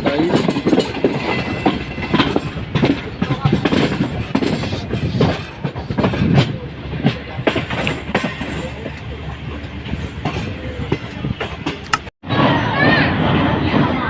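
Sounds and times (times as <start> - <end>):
train rumbling on track: 0.0 - 14.0
wheels clattering over rail joints: 0.0 - 14.0.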